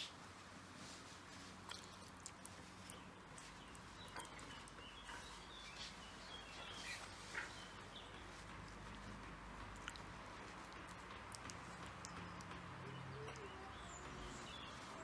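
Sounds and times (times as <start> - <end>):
wet sounds of chicken pieces: 1.1 - 13.6.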